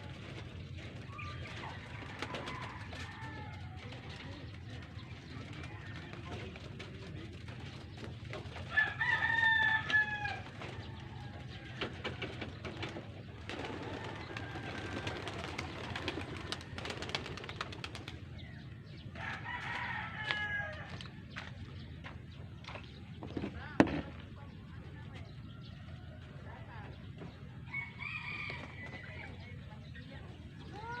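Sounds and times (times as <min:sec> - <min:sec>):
birds calling: 0:00.4 - 0:31.0.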